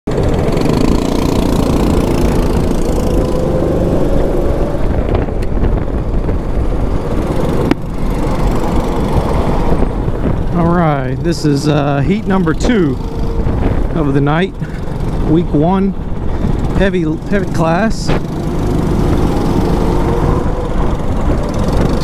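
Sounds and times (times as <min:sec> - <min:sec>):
go-kart engine running hard: 0:00.1 - 0:22.0.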